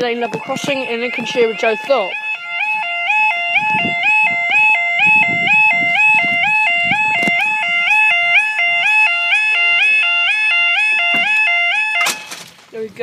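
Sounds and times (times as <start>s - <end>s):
level crossing two-tone alarm: 0.0s - 12.4s.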